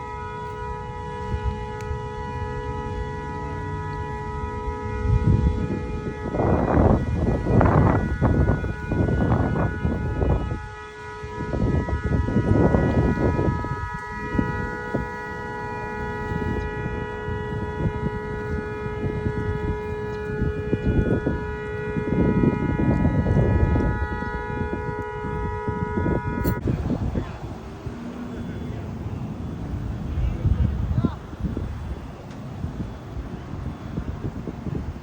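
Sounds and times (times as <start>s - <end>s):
gusty low rumble: 0.0s - 35.0s
steady multi-pitch siren tone: 0.0s - 35.0s.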